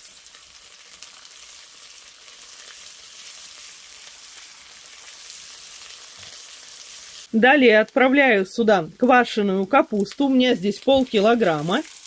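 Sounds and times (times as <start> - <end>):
vegetables frying in oil: 0.0 - 12.0.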